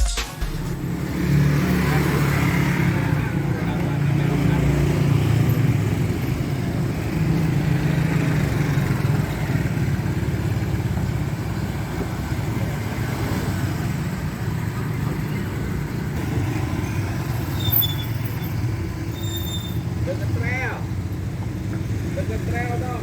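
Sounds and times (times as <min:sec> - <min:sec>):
low traffic hum: 0:00.4 - 0:23.0
motorcycle engines running: 0:00.7 - 0:23.0.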